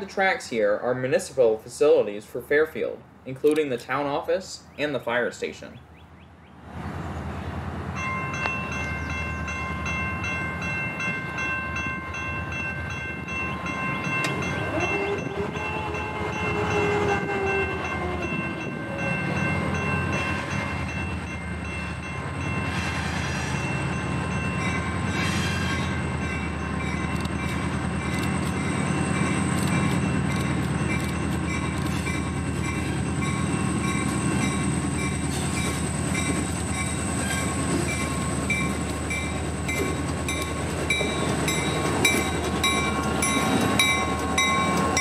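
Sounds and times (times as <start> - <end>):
diesel locomotive engines rumbling: 5.7 - 45.0.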